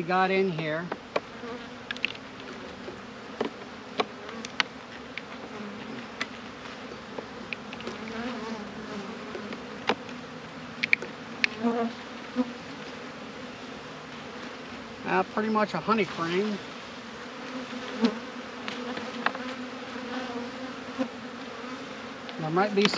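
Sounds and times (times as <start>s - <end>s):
bees humming: 0.0s - 22.9s.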